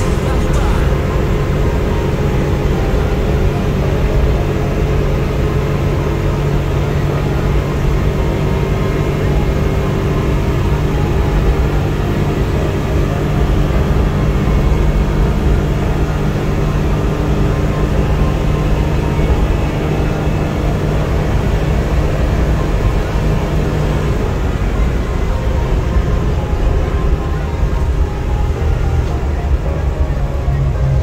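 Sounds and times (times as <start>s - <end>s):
low hum: 0.0s - 31.0s
van engine and road noise drone: 0.0s - 31.0s.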